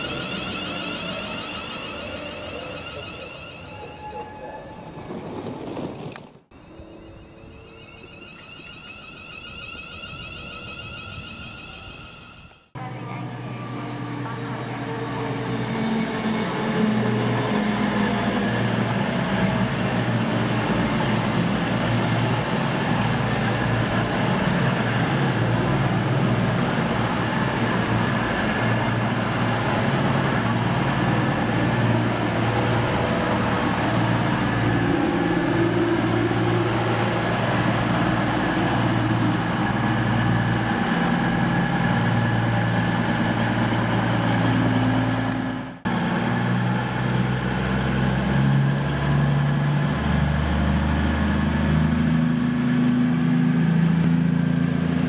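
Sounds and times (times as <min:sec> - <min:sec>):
train running: 0:00.0 - 0:55.0.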